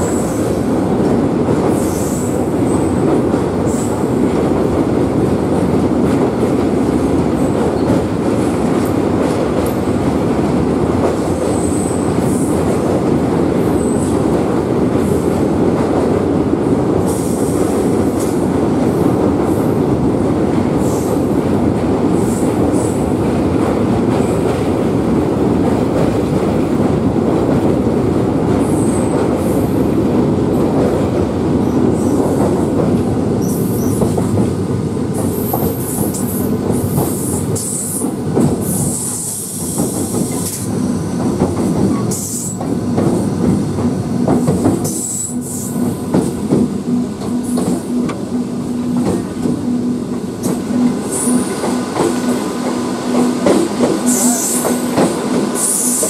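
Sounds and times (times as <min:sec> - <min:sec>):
train wheels rumbling on bridge: 0:00.0 - 0:56.0.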